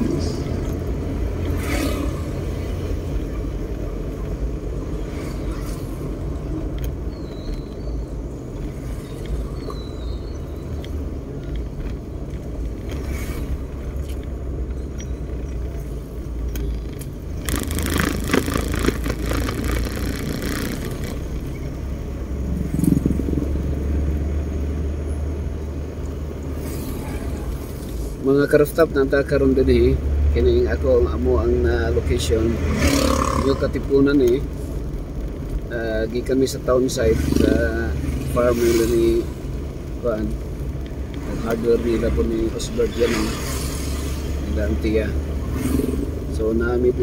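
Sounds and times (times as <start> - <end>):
van engine and road rumble: 0.0 - 47.0.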